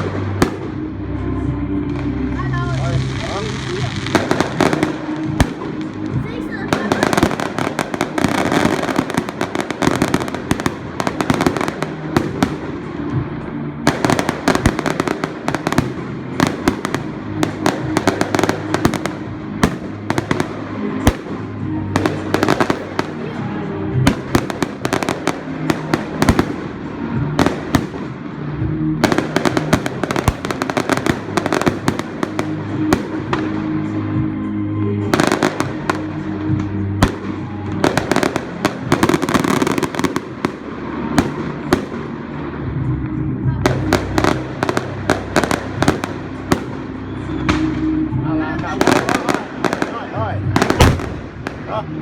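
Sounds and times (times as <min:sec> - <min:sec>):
fireworks bangs and crackling: 0:00.0 - 0:52.0
music playing: 0:00.0 - 0:52.0.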